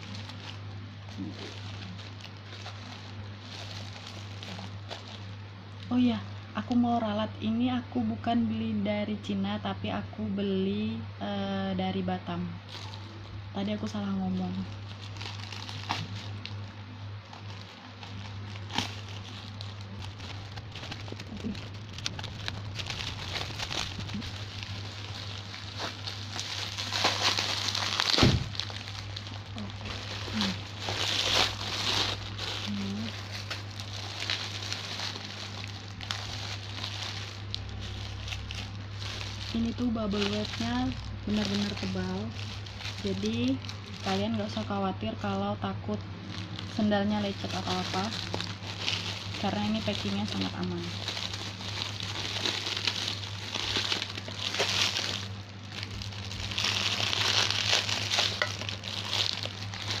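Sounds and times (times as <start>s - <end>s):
bubble wrap crinkling: 0.0s - 7.6s, 12.6s - 60.0s.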